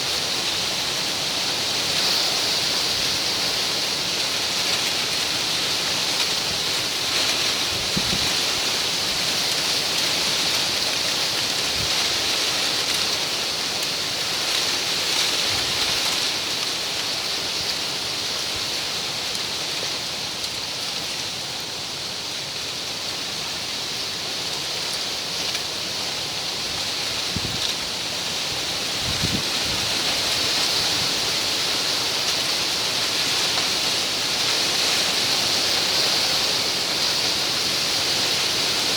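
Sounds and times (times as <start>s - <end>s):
wind rustling palm fronds: 0.0s - 38.9s.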